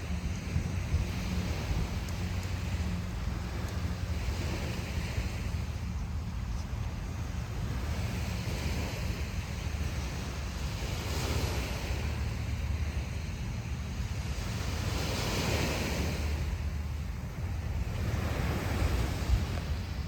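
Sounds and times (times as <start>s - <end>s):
ocean surf breaking: 0.0s - 20.0s
wind rumble on microphone: 0.0s - 20.0s.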